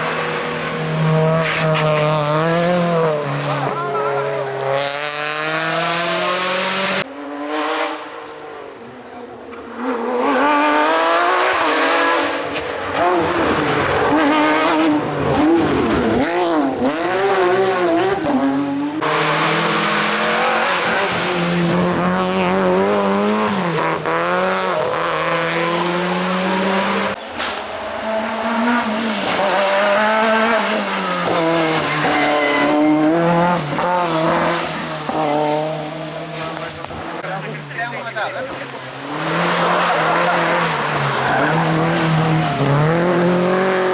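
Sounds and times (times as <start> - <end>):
rally car engines at full throttle: 0.0 - 43.9.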